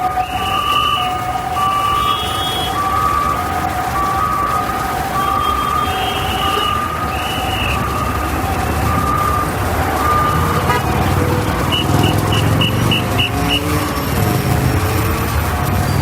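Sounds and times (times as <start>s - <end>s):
ambulance siren: 0.0s - 16.0s
rumble of engines and tyres: 0.0s - 16.0s.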